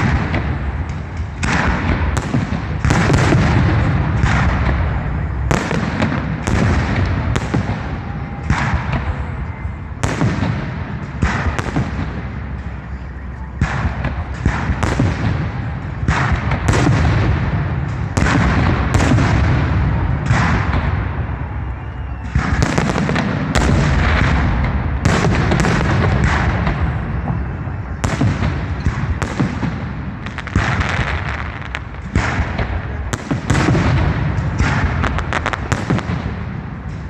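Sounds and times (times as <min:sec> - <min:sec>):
firework bangs: 0:00.0 - 0:37.0
firework rumble and crackle: 0:00.0 - 0:37.0.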